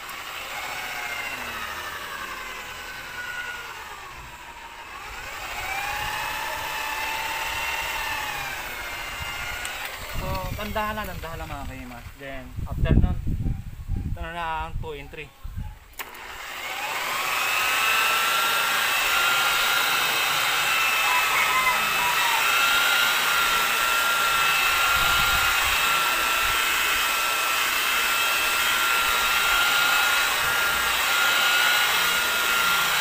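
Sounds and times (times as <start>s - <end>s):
electric polisher whining: 0.0s - 11.6s, 16.0s - 33.0s.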